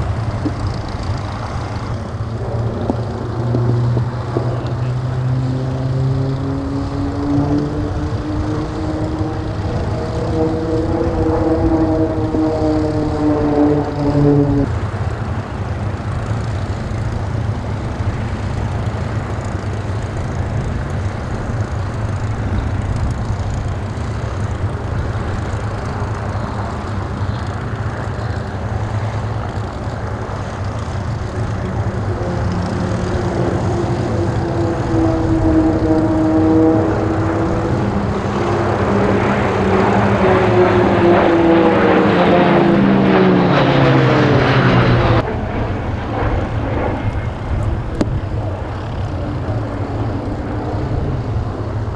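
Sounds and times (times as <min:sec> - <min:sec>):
propeller aircraft droning overhead: 0:00.0 - 0:51.9.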